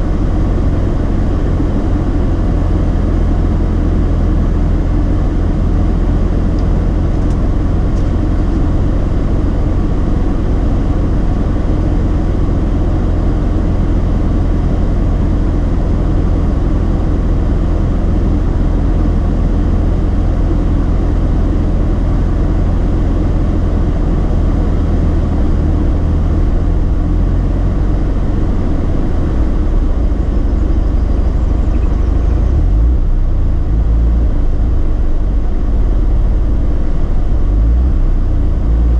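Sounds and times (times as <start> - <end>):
rotary engine idling with misfires: 0.0 - 38.9.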